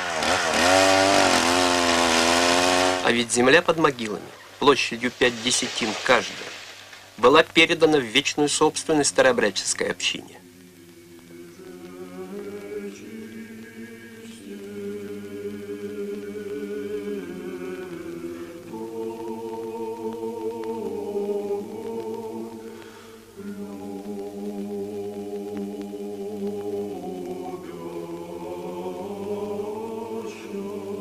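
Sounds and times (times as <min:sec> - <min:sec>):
unaccompanied choir chanting: 0:00.0 - 0:03.3, 0:09.0 - 0:31.0.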